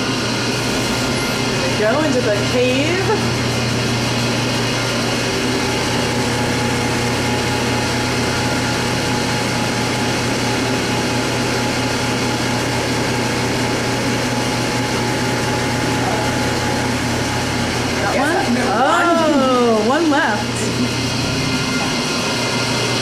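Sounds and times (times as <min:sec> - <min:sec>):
electric fans whirring: 0:00.0 - 0:23.0.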